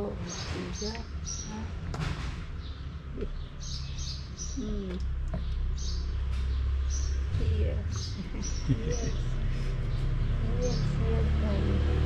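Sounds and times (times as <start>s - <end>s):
low background rumble: 0.0s - 12.0s
small birds chirping: 0.0s - 12.0s.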